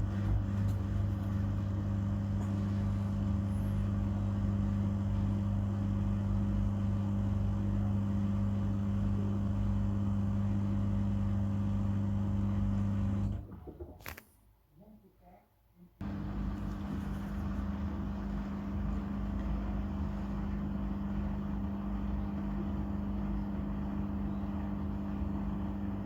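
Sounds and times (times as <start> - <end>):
washing machine humming: 0.0 - 13.9, 16.0 - 26.0.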